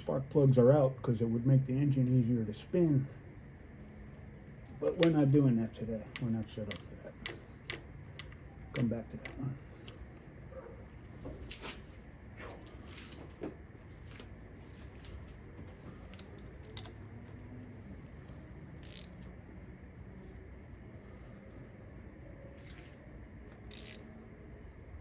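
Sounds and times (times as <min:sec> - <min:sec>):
low background hum: 0:00.0 - 0:25.0.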